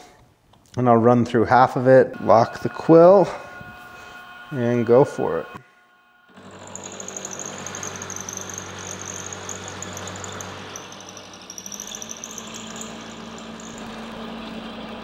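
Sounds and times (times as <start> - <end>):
end mill cutting metal whine: 2.1 - 15.0
mill-drill motor hum: 2.2 - 15.0.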